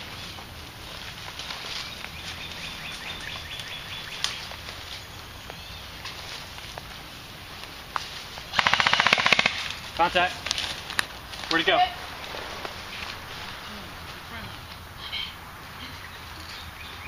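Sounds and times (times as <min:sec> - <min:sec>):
footsteps through brush and leaves: 0:00.0 - 0:08.6, 0:09.5 - 0:16.3.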